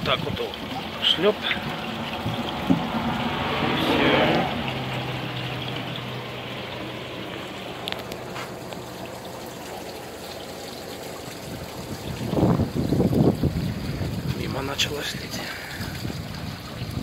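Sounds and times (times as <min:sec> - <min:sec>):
water pouring into a canister: 0:00.0 - 0:17.0.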